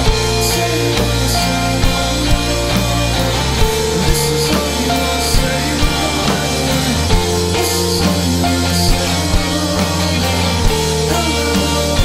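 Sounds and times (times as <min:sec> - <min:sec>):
rock music with drum beat: 0:00.0 - 0:12.0.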